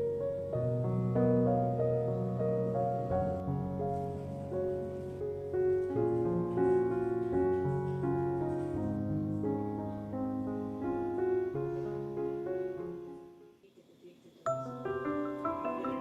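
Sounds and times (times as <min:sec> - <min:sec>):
soft piano music: 0:00.0 - 0:13.6, 0:14.4 - 0:16.0.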